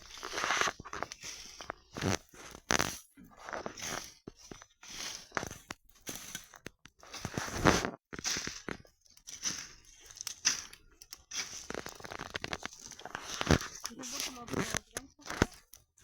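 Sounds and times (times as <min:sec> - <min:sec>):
dry twigs crackling in campfire: 0:00.0 - 0:16.0.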